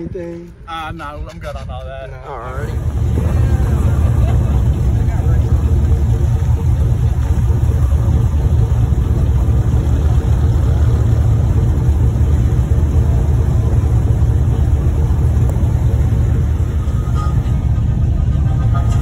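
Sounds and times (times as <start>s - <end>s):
vehicle engine idling: 2.5s - 19.0s.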